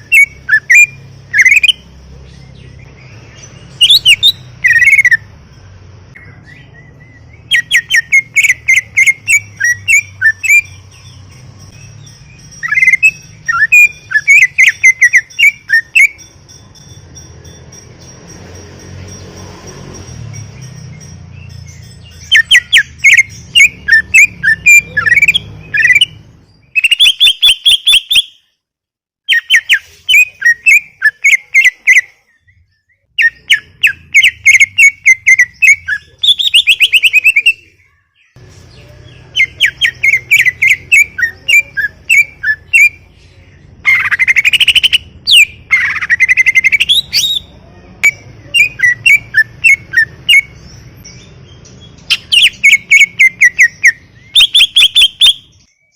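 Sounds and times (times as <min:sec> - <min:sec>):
bird chirping: 0:00.0 - 0:28.6, 0:29.2 - 0:55.9.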